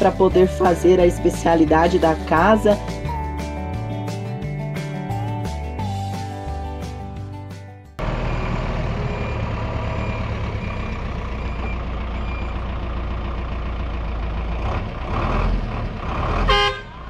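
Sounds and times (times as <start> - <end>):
motorhome engine rumbling: 0.0 - 17.0.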